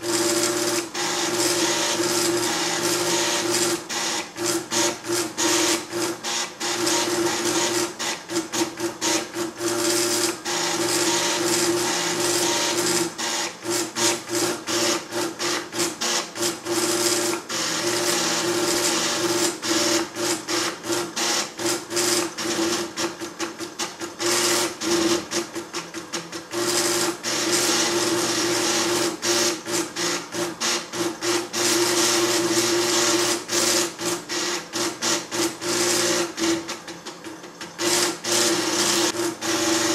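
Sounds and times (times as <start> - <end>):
plotter stepping motors buzzing: 0.0 - 25.6, 26.4 - 36.7, 37.8 - 39.9.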